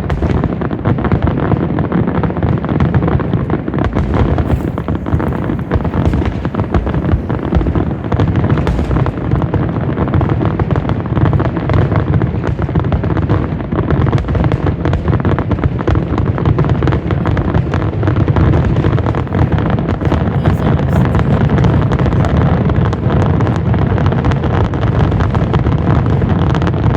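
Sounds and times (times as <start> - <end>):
fireworks bursting: 0.0 - 26.9.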